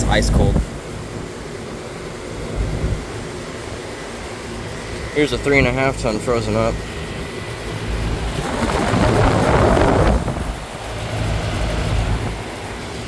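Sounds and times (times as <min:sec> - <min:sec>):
air conditioner unit humming: 0:00.0 - 0:13.0
rush of fan air: 0:00.0 - 0:13.0.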